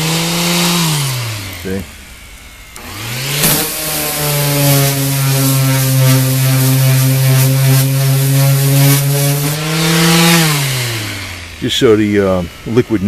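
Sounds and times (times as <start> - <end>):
electric sander running on steel: 0.0 - 13.0.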